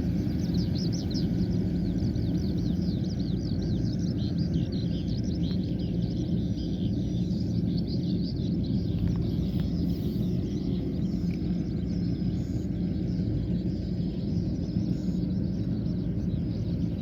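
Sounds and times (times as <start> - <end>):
combine harvester humming: 0.0 - 17.0.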